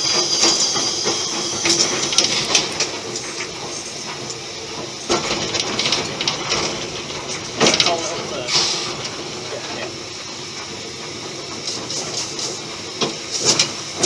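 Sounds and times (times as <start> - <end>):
locomotive knocks and clanks: 0.0 - 14.0
steam hissing: 0.0 - 14.0.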